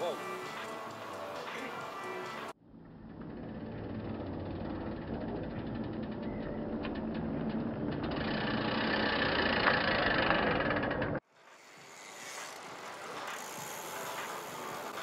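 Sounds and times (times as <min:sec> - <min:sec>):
bike tyre and wind noise: 0:00.0 - 0:15.0.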